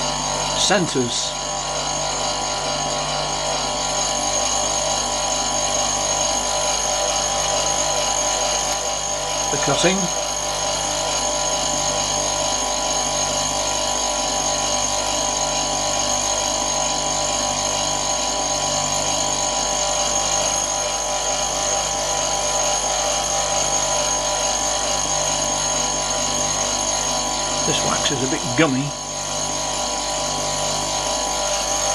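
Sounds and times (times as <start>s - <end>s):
electric motor humming and whining: 0.0s - 31.9s.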